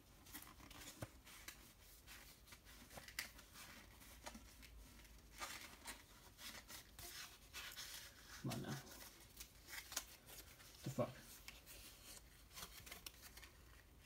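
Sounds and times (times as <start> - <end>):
packaging rustling: 0.1 - 14.0.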